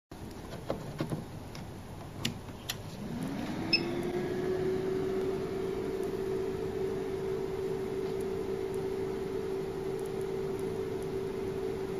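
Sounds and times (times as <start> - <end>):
fan humming: 0.2 - 11.9.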